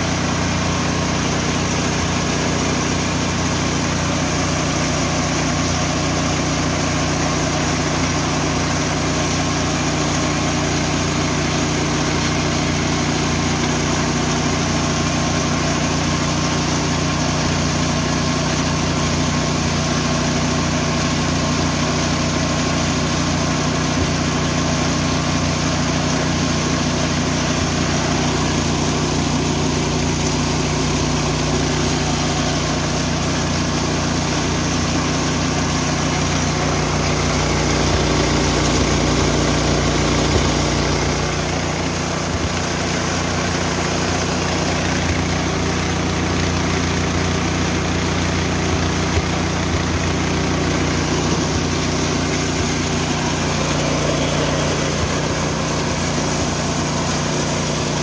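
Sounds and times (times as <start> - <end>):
milling machine running: 0.0 - 58.0.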